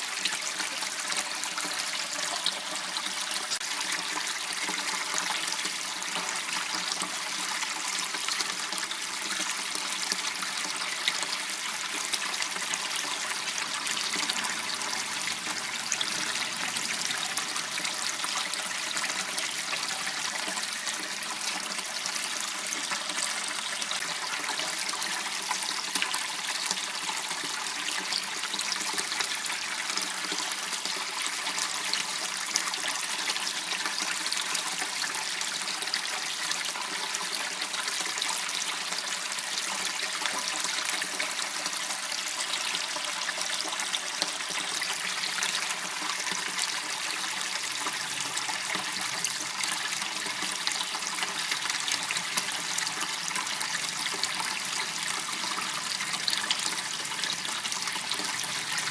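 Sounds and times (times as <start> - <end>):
water trickling in channel: 0.0 - 58.9.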